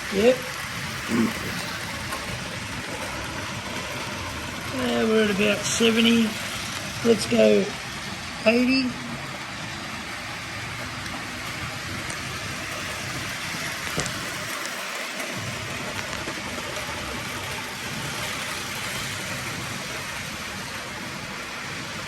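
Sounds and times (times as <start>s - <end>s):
model train motor whirring: 0.0s - 8.2s, 9.6s - 22.0s.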